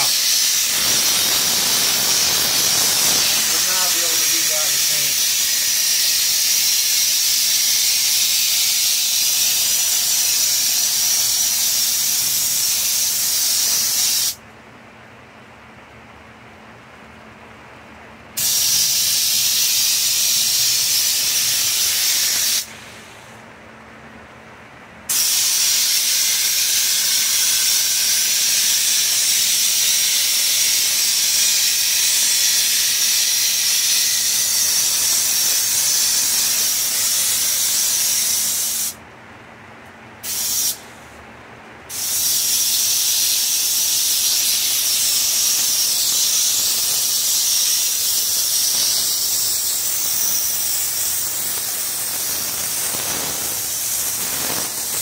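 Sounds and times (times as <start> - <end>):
spray gun hissing: 0.0 - 14.4, 18.4 - 22.8, 25.1 - 39.0, 40.2 - 40.8, 41.9 - 55.0.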